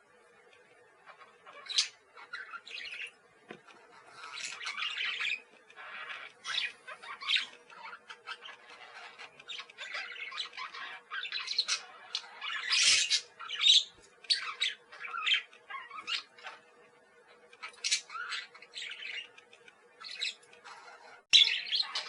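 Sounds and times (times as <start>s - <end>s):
faint steady hum: 0.0s - 22.0s
parakeets chirping and squawking: 0.4s - 22.0s.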